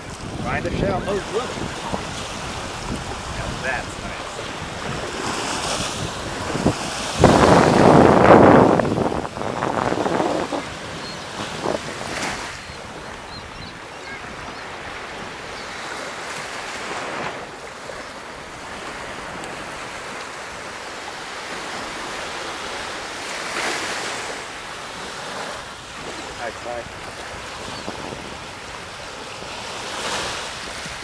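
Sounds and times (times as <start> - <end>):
small waves lapping on beach: 0.0 - 31.0.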